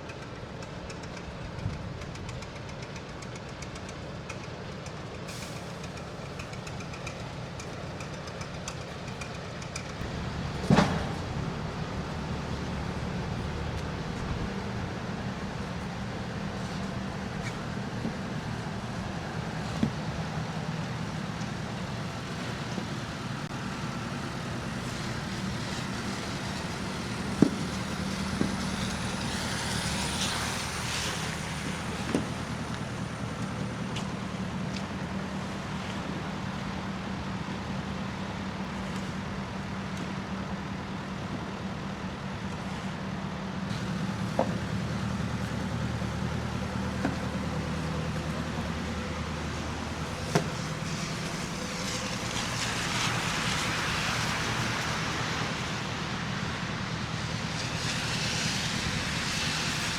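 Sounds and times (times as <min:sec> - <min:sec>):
street traffic: 0:00.0 - 0:59.9
vehicle engine humming: 0:00.0 - 0:59.9.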